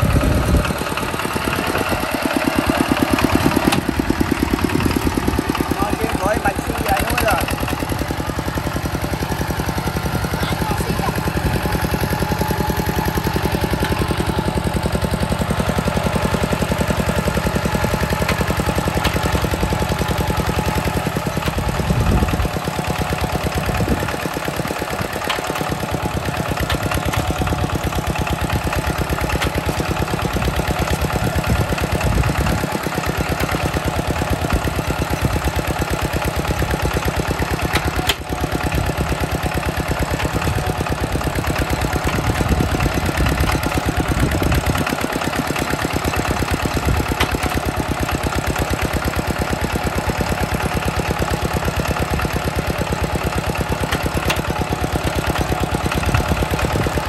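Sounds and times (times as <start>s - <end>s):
walking tractor diesel engine running: 0.0s - 57.0s.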